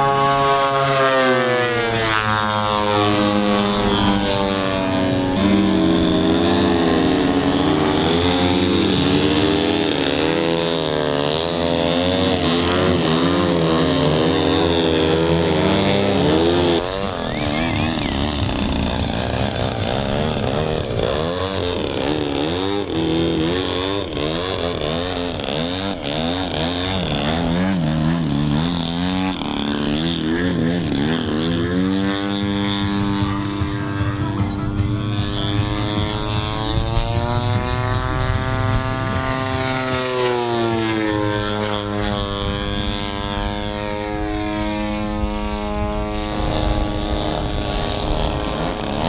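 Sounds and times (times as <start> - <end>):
model airplane propeller engines: 0.0 - 49.0.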